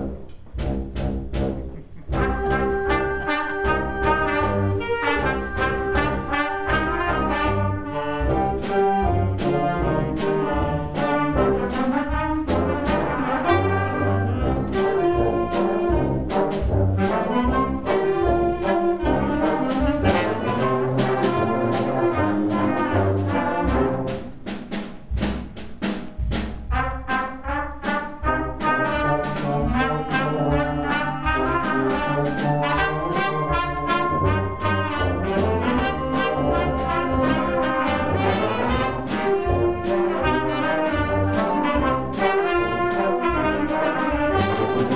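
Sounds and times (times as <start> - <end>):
concert band playing ragtime: 0.0 - 44.9.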